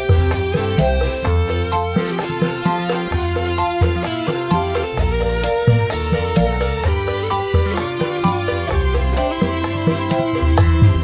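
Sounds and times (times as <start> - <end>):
band playing instrumental music: 0.0 - 11.0
bass line: 0.0 - 11.0
sustained melody: 0.0 - 11.0.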